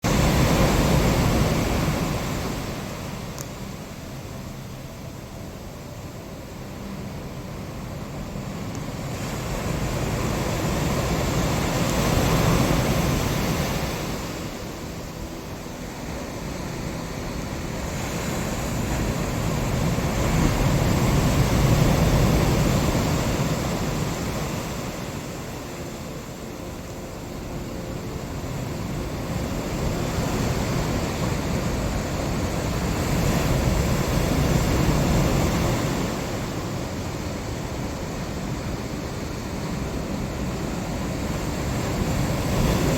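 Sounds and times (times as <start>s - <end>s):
ocean waves rushing: 0.0s - 42.9s.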